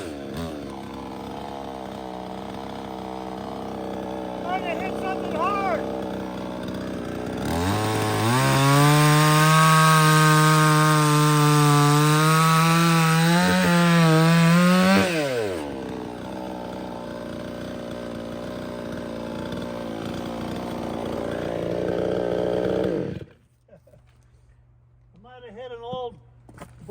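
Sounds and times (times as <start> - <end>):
chainsaw cutting through log: 0.0 - 23.5
chainsaw idling and revving: 0.0 - 23.5.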